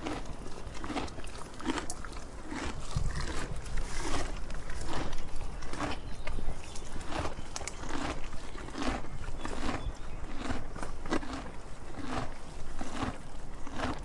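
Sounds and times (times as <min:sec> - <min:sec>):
cow crunching grass: 0:00.0 - 0:14.0.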